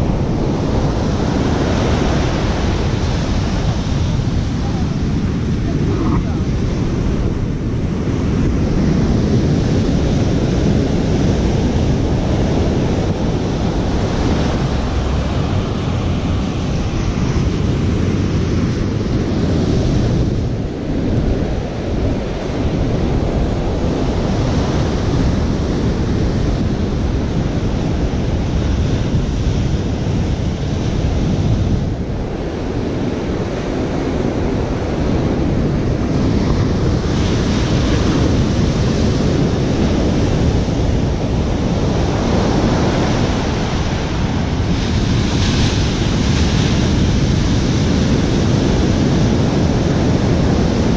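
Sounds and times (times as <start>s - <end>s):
ocean surf breaking: 0.0s - 50.9s
wind buffeting microphone: 0.0s - 50.9s.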